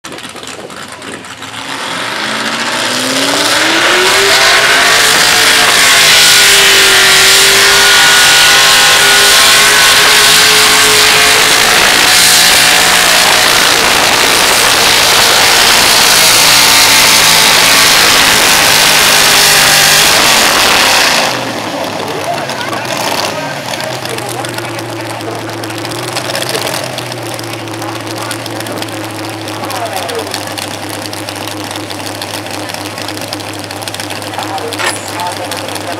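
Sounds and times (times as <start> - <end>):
pickup engine at full throttle: 0.0 - 35.9.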